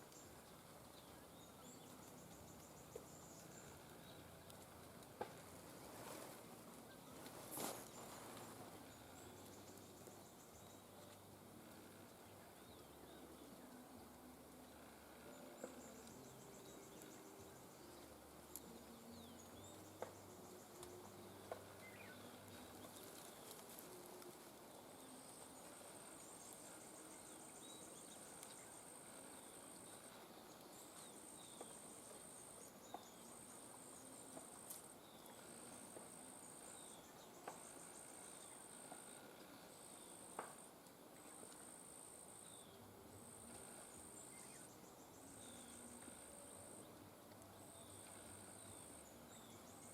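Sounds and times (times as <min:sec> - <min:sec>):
faint clicks: 0:01.8 - 0:13.9, 0:14.6 - 0:44.7.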